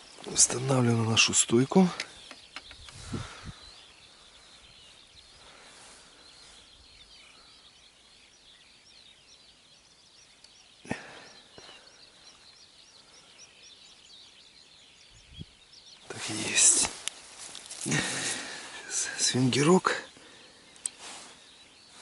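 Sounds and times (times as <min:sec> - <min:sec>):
distant birds chirping: 0:00.0 - 0:22.0.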